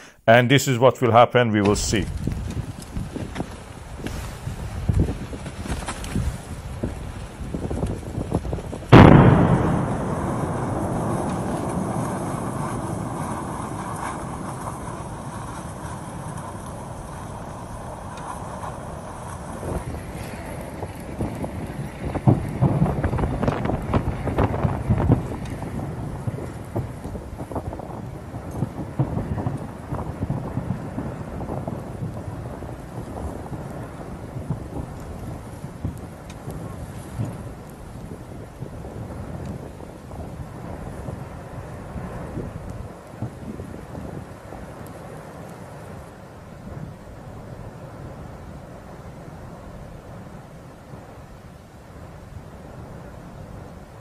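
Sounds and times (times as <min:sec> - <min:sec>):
crackling lava pops: 0:01.6 - 0:54.0
explosion boom with deep rumble: 0:06.3 - 0:51.1.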